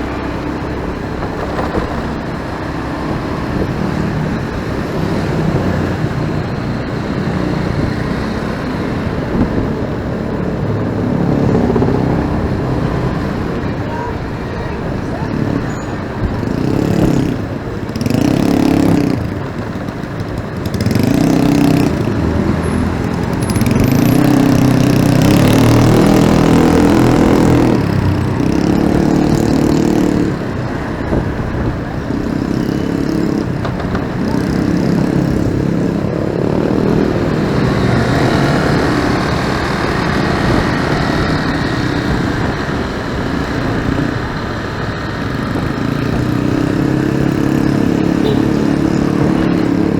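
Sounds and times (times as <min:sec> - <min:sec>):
motorcycle engine revving: 0:00.0 - 0:49.9
road and wind noise: 0:00.0 - 0:49.9.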